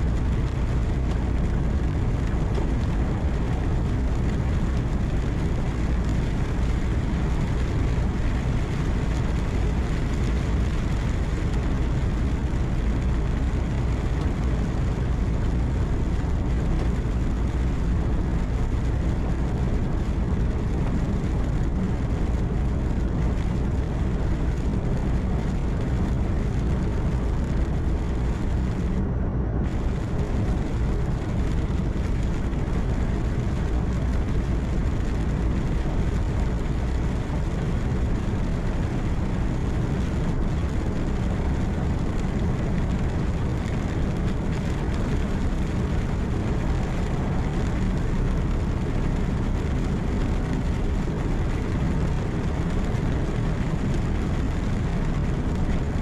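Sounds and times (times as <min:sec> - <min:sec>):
truck engine hum: 0:00.0 - 0:51.2
road noise: 0:00.0 - 0:56.0.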